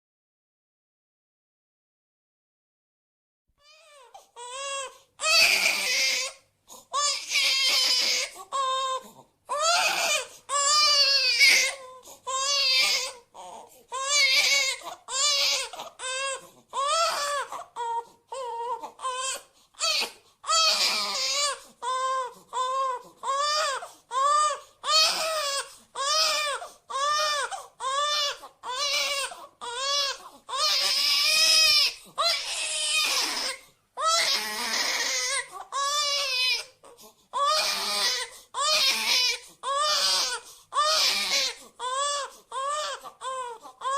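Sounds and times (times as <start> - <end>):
infant crying: 3.6 - 43.9.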